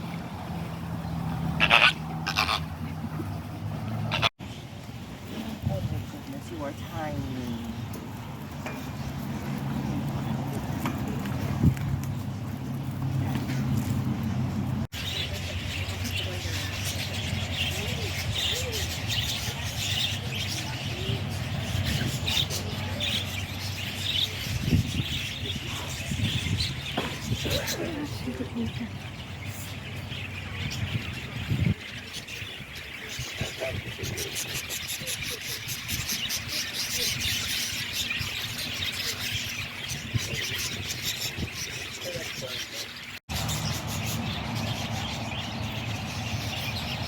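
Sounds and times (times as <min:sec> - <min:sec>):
small birds chirping: 0:04.1 - 0:47.0.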